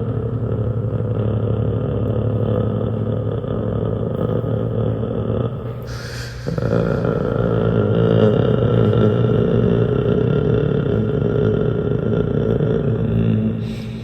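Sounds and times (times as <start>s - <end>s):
heavy motor rumble: 0.0s - 14.0s.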